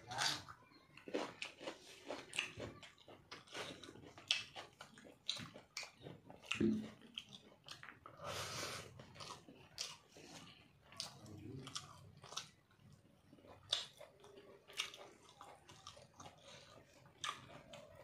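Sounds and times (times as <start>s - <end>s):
chewing and lip smacking: 0.1s - 8.2s, 8.8s - 18.0s.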